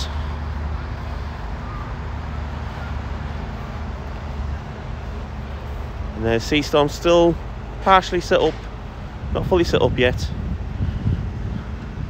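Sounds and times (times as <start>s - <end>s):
low mechanical hum: 0.0s - 12.0s
outdoor background noise: 0.0s - 12.0s.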